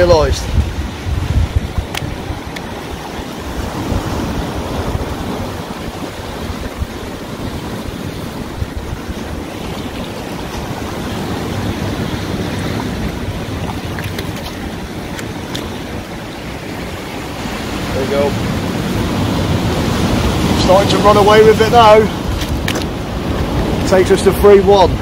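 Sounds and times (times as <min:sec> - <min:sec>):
waves washing over rocks: 0:00.0 - 0:25.0
wind buffeting microphone: 0:00.0 - 0:25.0.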